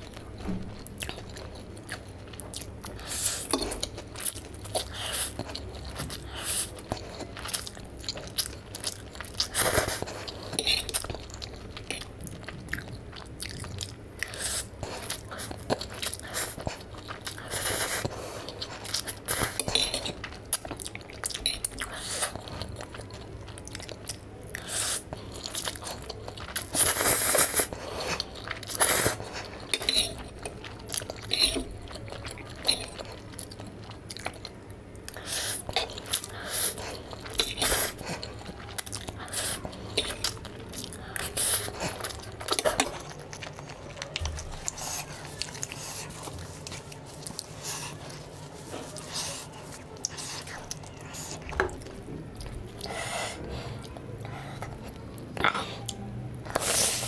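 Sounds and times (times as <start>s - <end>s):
chewing: 0.0s - 57.0s.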